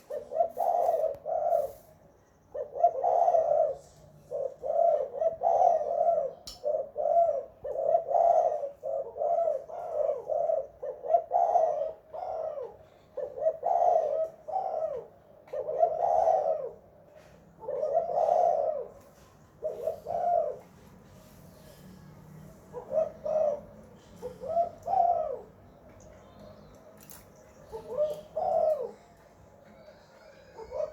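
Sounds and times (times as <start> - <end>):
dove cooing: 0.0 - 1.9, 2.5 - 20.8, 22.5 - 26.4, 27.1 - 30.9.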